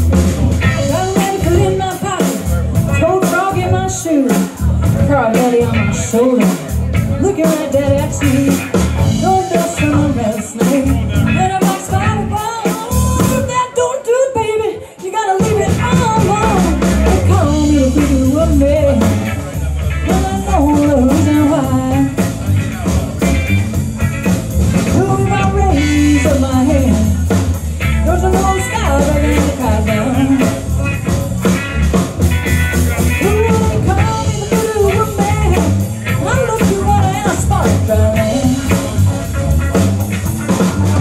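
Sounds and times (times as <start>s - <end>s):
live blues band playing: 0.0s - 41.0s.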